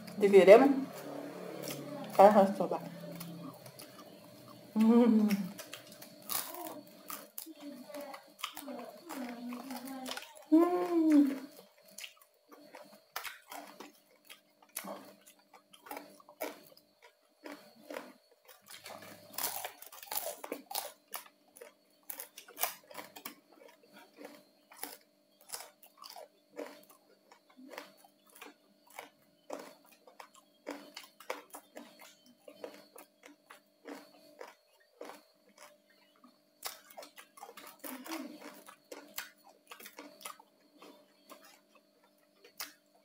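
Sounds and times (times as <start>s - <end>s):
chewing crunchy food: 0.8s - 43.0s.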